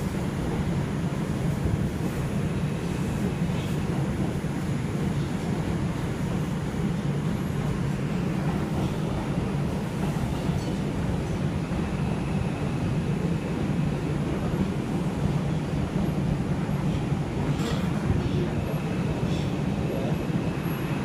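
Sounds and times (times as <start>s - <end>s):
subway car rumbling through tunnel: 0.0s - 21.0s.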